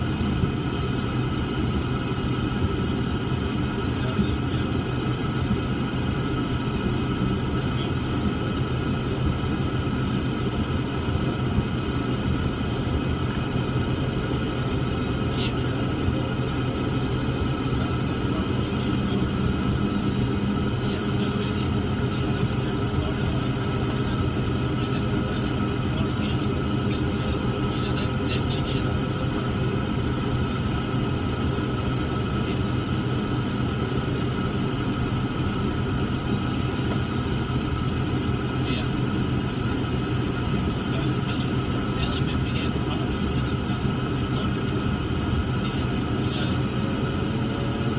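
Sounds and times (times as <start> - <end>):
aircraft engines droning in cabin: 0.0 - 47.9.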